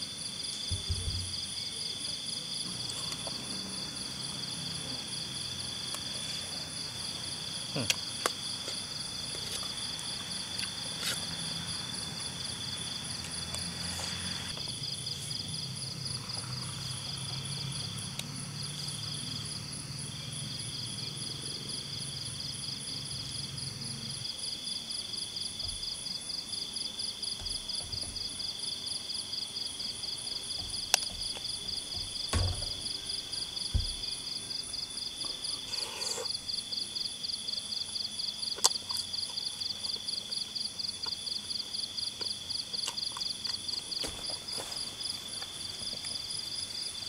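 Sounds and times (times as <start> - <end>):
night insects trilling: 0.0 - 47.0.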